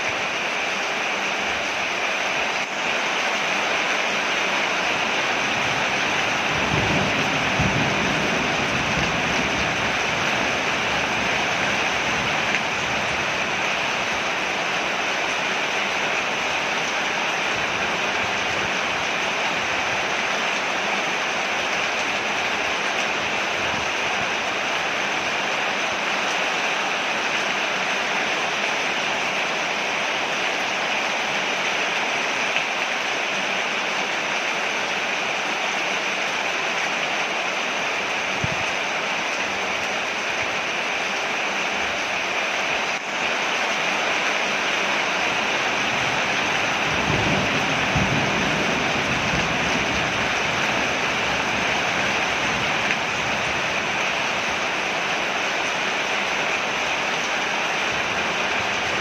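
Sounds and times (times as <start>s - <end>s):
rain falling on a porch: 0.0s - 59.0s.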